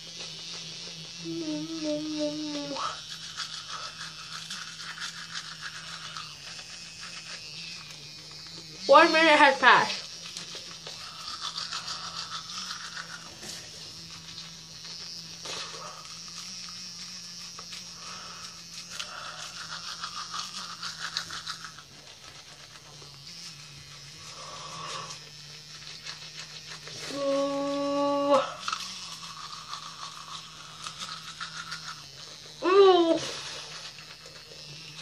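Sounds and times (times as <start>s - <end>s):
toothbrush scrubbing teeth: 0.0s - 35.0s.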